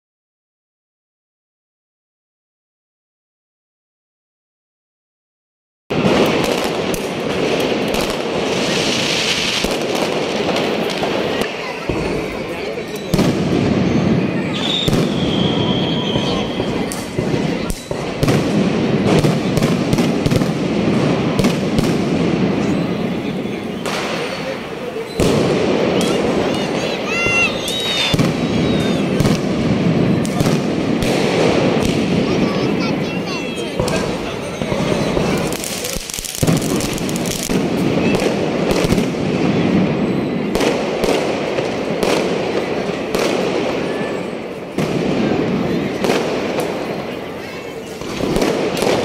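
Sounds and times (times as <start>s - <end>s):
crackling of bursting fireworks: 5.9s - 49.0s
firework bangs: 5.9s - 49.0s.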